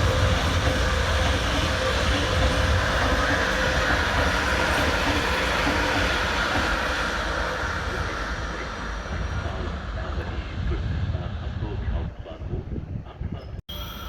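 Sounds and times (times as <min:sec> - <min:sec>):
train wheels rumbling on tracks: 0:00.0 - 0:13.6.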